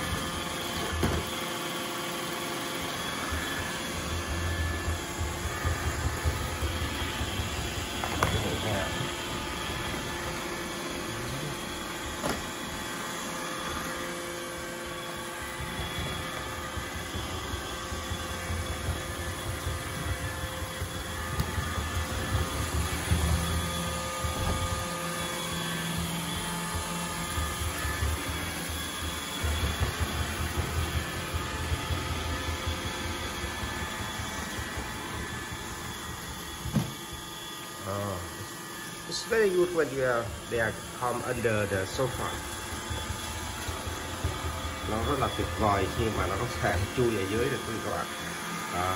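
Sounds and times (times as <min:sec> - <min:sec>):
robot vacuum whirring: 0:00.0 - 0:48.9.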